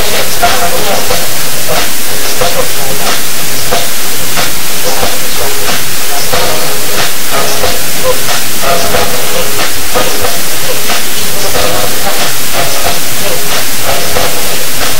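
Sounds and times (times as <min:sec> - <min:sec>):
overloaded microphone hiss: 0:00.0 - 0:14.9.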